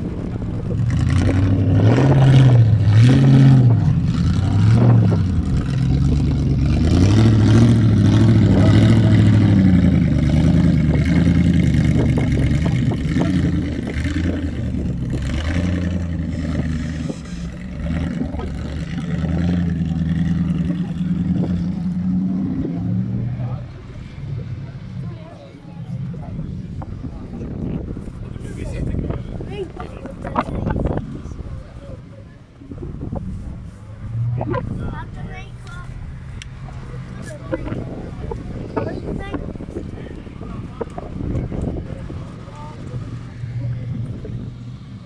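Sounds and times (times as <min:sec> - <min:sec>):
engine revving: 0:00.0 - 0:31.8, 0:33.0 - 0:45.0.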